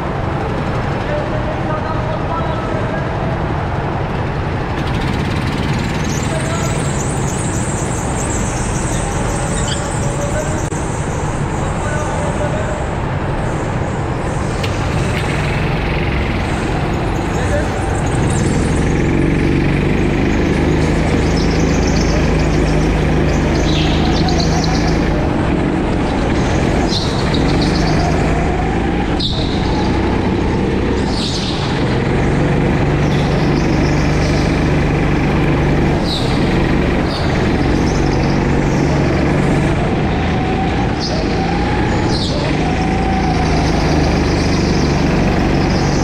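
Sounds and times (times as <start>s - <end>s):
go-kart engine running hard: 0.0s - 46.0s
tyres squealing: 5.1s - 46.0s.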